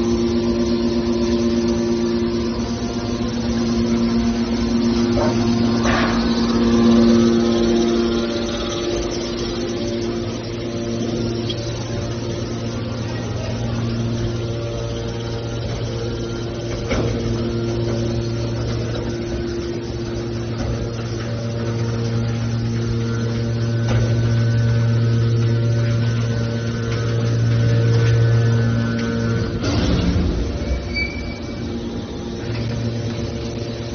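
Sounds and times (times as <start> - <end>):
hydraulic machine droning hum: 0.0 - 33.9.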